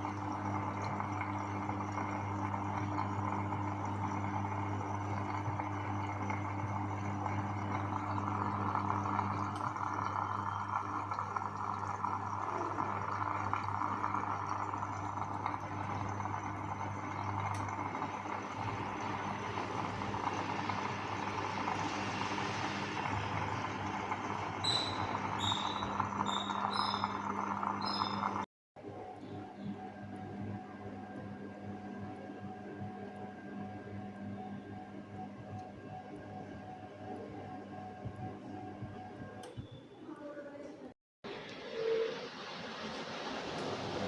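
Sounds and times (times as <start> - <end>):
washing machine motor hum: 0.0 - 44.0.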